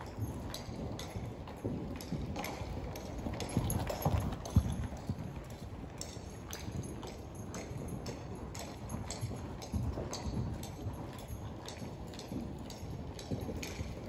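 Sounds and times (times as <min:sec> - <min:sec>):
horse hoofbeats on soft dirt: 0:00.0 - 0:14.0.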